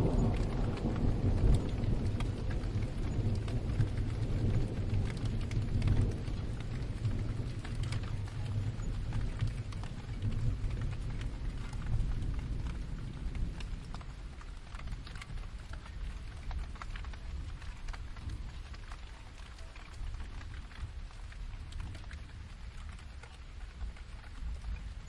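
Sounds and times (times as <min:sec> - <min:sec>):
distant thunder rumble: 0:00.0 - 0:25.0
distinct raindrops: 0:00.0 - 0:25.0
steady rain: 0:00.0 - 0:25.0.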